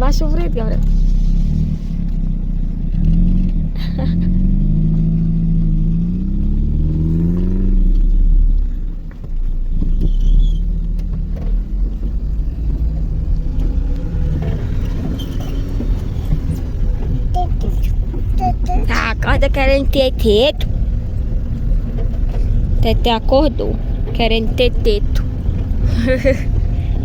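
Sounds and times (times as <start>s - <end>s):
car engine accelerating: 0.0s - 27.0s
rumble of driving car: 0.0s - 27.0s.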